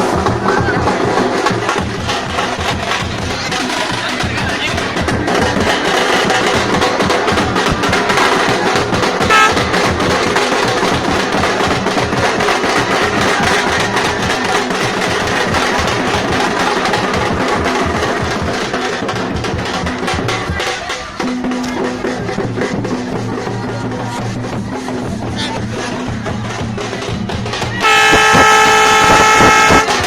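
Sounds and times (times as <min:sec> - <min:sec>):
fast drumming: 0:00.0 - 0:30.0.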